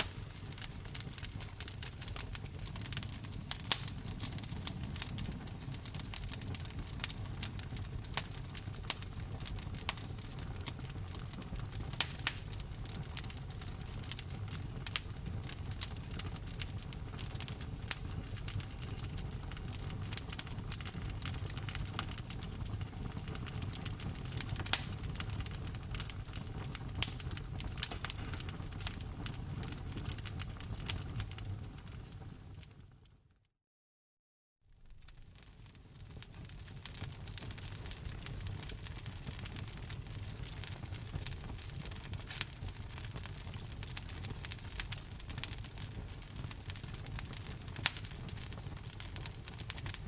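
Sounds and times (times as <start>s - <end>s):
wood fire crackling: 0.0s - 33.0s, 34.7s - 50.0s.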